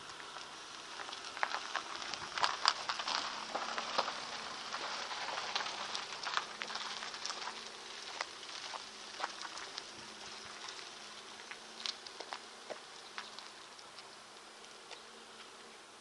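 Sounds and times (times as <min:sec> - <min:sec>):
crackling clicks and ticks: 0:00.0 - 0:15.6
steady hiss: 0:00.0 - 0:16.0.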